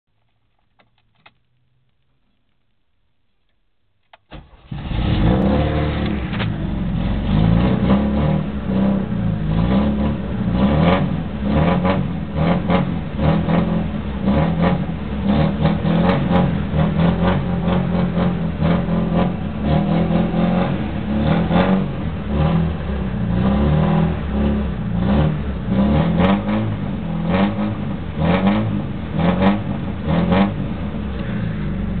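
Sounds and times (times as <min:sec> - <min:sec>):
car engine revving: 0:04.3 - 0:32.0.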